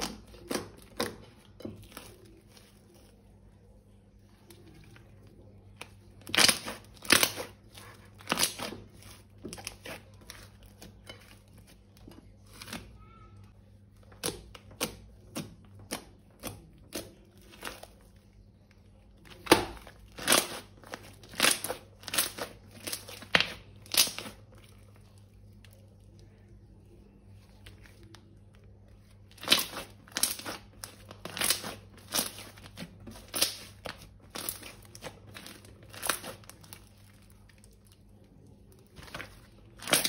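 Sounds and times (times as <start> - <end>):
crunchy slime crackling: 0.0 - 40.0.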